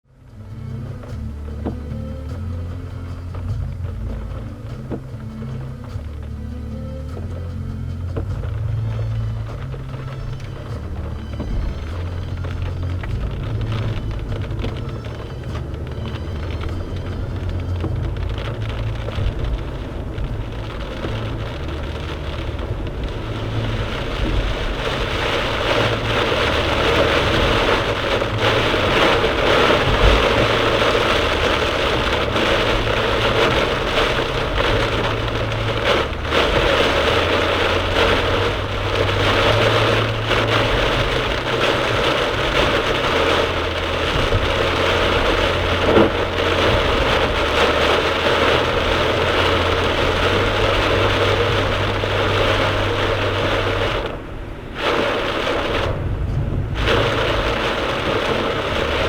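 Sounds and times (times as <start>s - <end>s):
engine and tyres rumbling: 0.0s - 59.0s
heavy rain on car roof: 0.0s - 59.0s.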